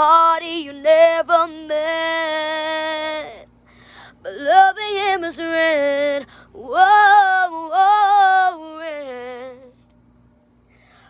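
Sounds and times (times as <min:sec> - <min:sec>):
woman singing unaccompanied: 0:00.0 - 0:09.8.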